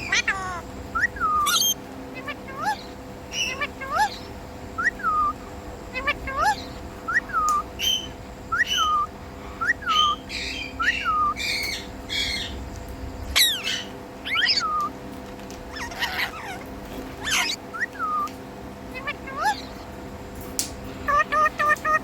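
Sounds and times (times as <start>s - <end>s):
parakeet squawks: 0.0s - 9.1s, 9.7s - 12.6s, 13.3s - 15.0s, 15.6s - 19.9s, 21.0s - 22.0s
parakeet whistled chirps: 0.0s - 12.6s, 13.3s - 15.0s, 15.7s - 18.3s, 19.0s - 19.8s, 21.1s - 22.0s.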